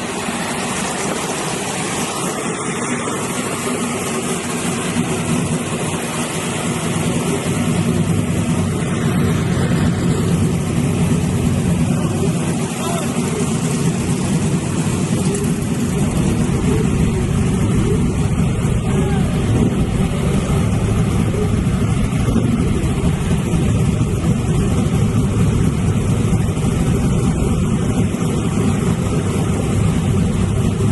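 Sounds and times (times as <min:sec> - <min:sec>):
continuous rushing noise: 0:00.0 - 0:30.9
truck engine running loud: 0:00.0 - 0:30.9.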